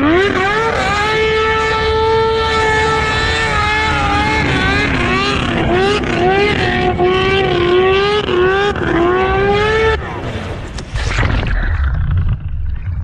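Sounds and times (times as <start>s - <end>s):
snowmobile engine at high revs: 0.0s - 12.6s.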